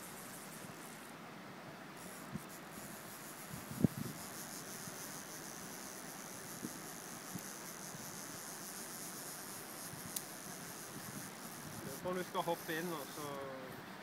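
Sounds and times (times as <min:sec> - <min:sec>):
faint ticks: 0:02.0 - 0:13.5.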